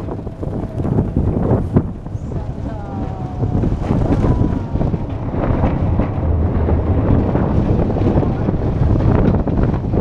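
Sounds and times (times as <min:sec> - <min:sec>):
train rattling: 0:00.0 - 0:10.0
train rumbling on track: 0:00.0 - 0:10.0
wind buffeting microphone: 0:00.0 - 0:10.0.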